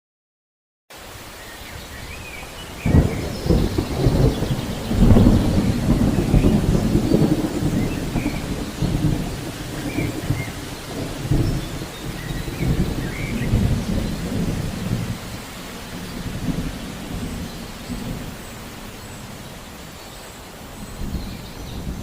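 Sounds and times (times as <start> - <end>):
waterfall roaring: 0.9 - 22.0.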